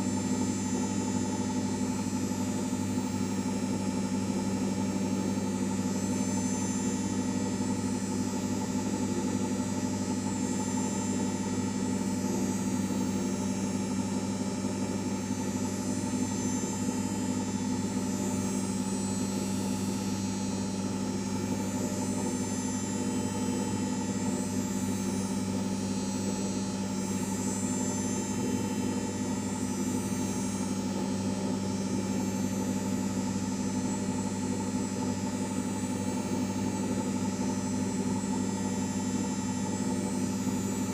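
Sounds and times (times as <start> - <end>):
washing machine hum: 0.0 - 40.9.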